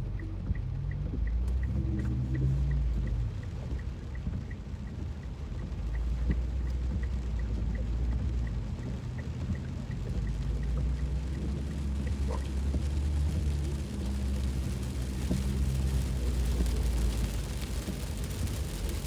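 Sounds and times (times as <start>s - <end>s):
car engine and tyres rumbling: 0.0s - 19.0s
faint regular ticking: 0.0s - 19.0s
heavy rain on a car: 0.0s - 19.0s.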